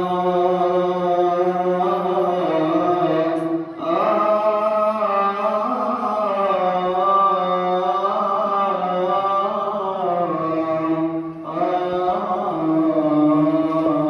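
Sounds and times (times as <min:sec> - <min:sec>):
man chanting a hymn: 0:00.0 - 0:14.0.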